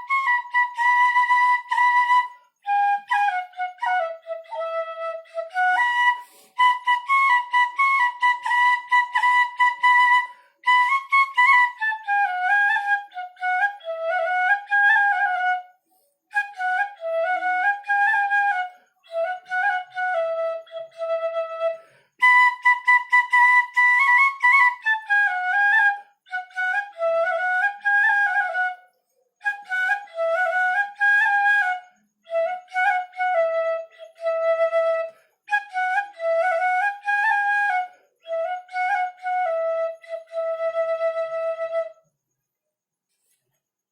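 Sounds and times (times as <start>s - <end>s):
bamboo flute melody: 0.0s - 42.2s.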